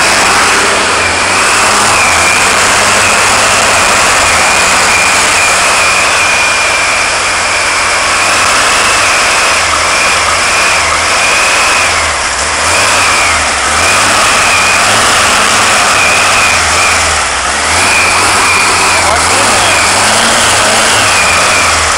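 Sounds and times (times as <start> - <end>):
car engine running loudly: 0.0 - 21.9
high engine whine: 0.0 - 21.9.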